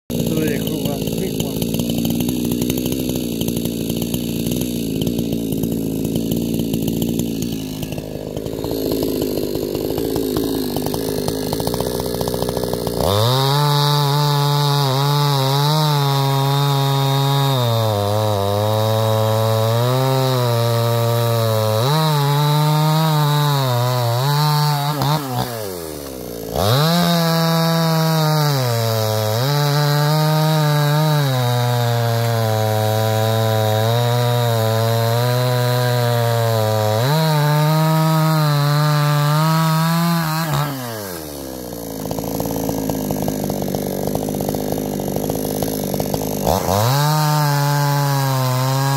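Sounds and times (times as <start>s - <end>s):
chainsaw cutting a log: 0.1s - 48.9s.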